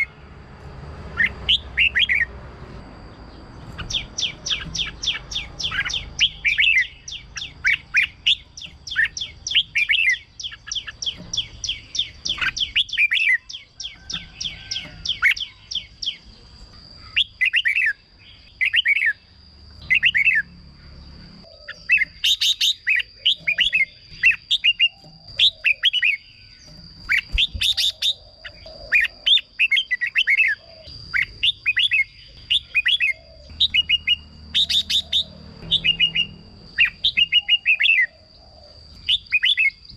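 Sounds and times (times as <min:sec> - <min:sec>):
bird whistled song: 0:01.2 - 0:02.3, 0:03.2 - 0:16.4, 0:17.0 - 0:39.9.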